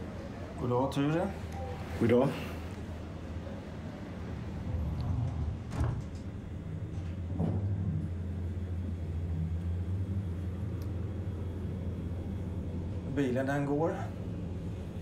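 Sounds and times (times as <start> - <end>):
lift cabin humming: 0.0 - 15.0.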